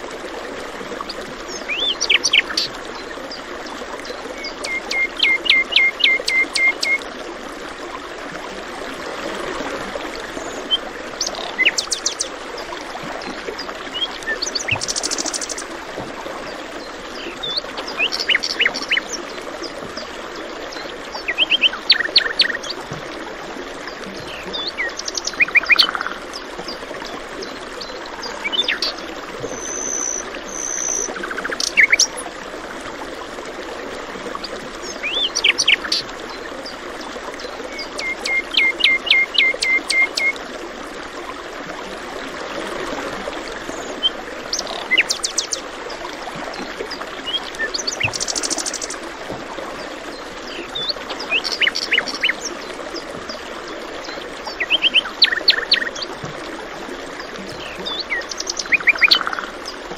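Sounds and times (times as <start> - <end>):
running water trickling: 0.0 - 59.9.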